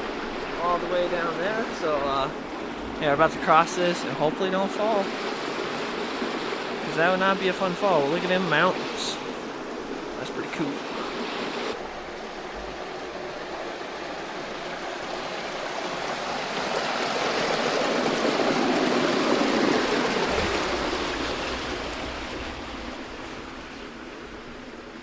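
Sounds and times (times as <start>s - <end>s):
rushing stream water: 0.0s - 25.0s.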